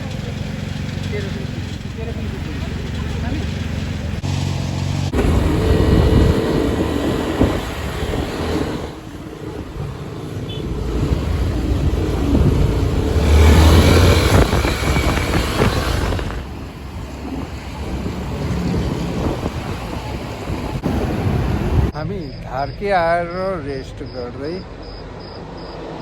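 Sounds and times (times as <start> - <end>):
motor vehicle rumbling: 0.0 - 26.0.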